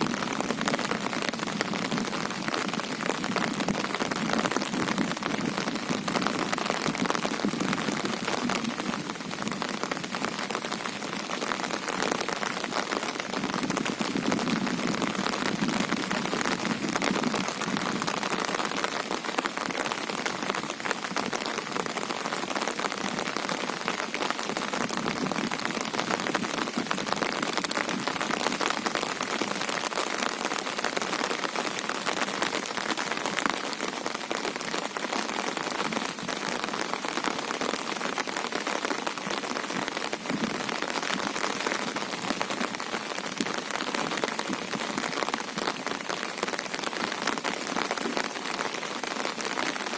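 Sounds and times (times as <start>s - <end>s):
heavy rain on a river: 0.0s - 49.9s.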